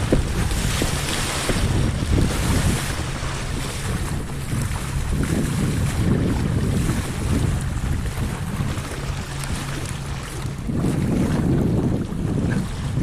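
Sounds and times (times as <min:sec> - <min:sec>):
water splashing against a hull: 0:00.0 - 0:13.0
wind buffeting microphone: 0:00.0 - 0:13.0.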